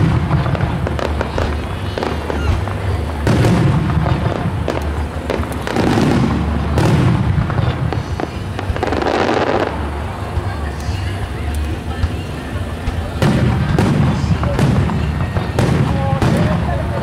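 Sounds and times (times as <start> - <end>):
fireworks shells bursting: 0.0 - 17.0.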